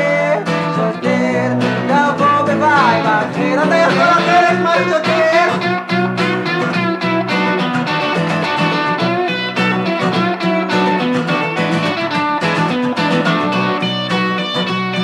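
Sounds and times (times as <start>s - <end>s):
lo-fi rock guitars playing: 0.0s - 15.0s.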